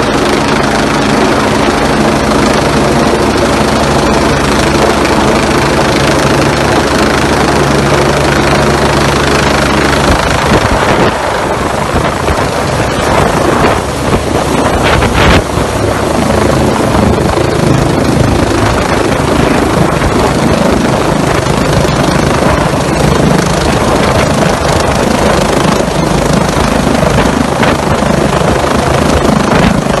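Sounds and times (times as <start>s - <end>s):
helicopter hovering overhead: 0.0s - 30.0s.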